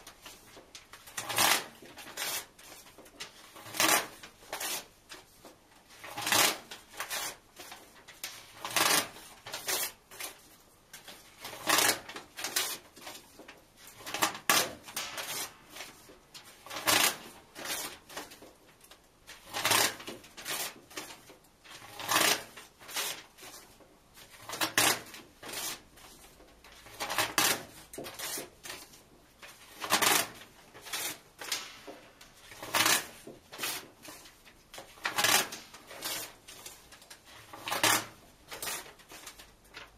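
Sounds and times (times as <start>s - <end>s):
paper ripping: 0.0s - 18.5s, 19.3s - 39.9s
paper rustling: 0.0s - 39.9s.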